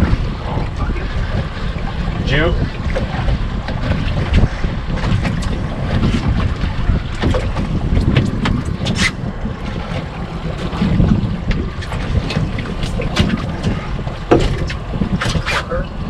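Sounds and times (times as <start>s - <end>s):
water slapping boat hull: 0.0s - 16.0s
wind rumbling on microphone: 0.0s - 16.0s.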